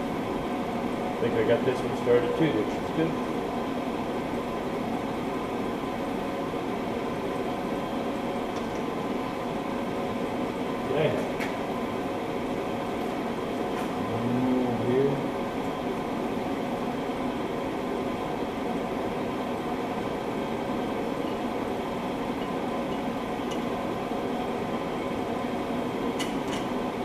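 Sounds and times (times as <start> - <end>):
machine hum with hiss: 0.0 - 27.0.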